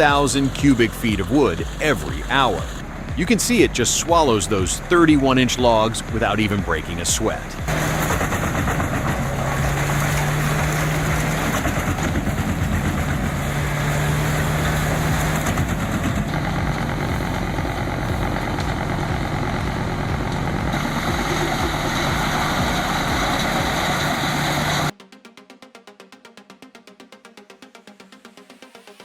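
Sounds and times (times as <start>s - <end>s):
wood chipper engine drone: 0.0s - 24.9s.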